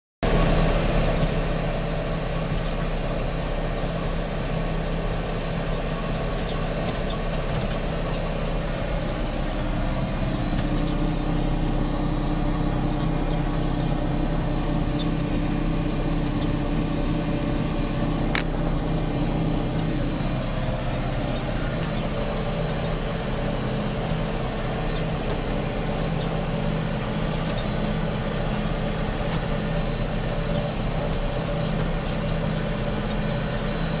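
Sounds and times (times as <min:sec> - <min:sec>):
tractor diesel engine under load: 0:00.2 - 0:34.0.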